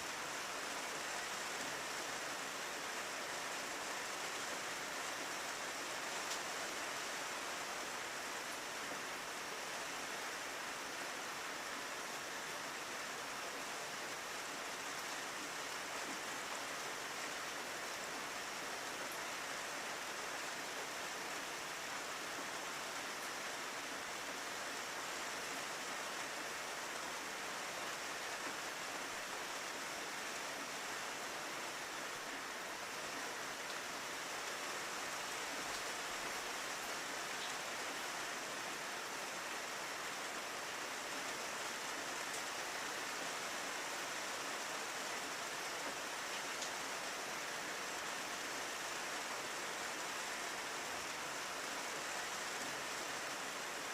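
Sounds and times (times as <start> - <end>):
rain on a window: 0.0 - 53.9.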